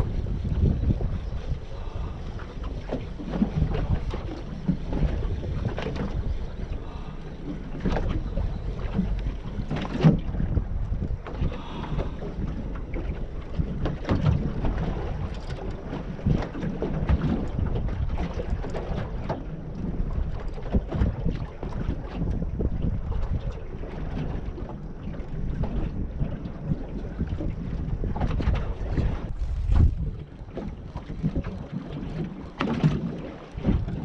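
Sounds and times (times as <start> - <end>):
low rumble: 0.0 - 32.5
water slapping against hull: 0.0 - 34.0
wind buffeting microphone: 0.0 - 34.0.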